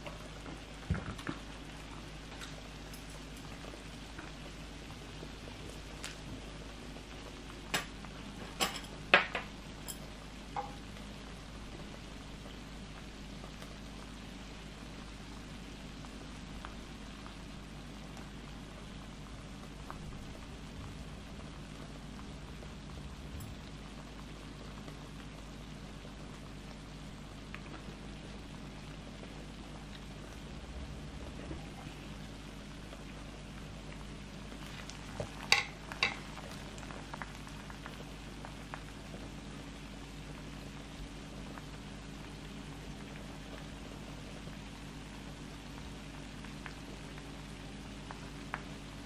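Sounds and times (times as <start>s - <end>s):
sauce bubbling and sizzling: 0.0s - 49.0s.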